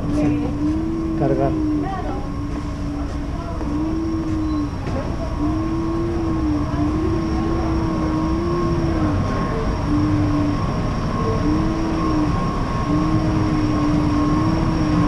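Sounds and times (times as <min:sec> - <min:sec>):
electric scooter motor whining: 0:00.0 - 0:15.0
steady low rumble: 0:00.0 - 0:15.0.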